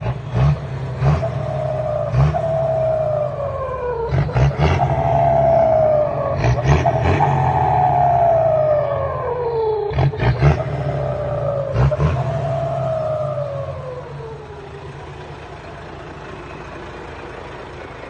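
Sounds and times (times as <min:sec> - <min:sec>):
turbocharger whistling: 0:00.0 - 0:17.3
truck diesel engine revving: 0:00.0 - 0:18.0.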